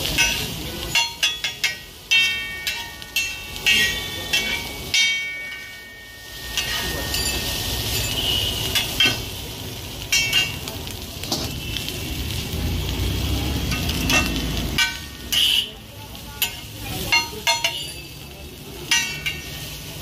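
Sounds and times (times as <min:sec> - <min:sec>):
metal spatulas clanging on griddle: 0:00.0 - 0:11.6, 0:13.7 - 0:20.0
food sizzling on griddle: 0:00.0 - 0:20.0.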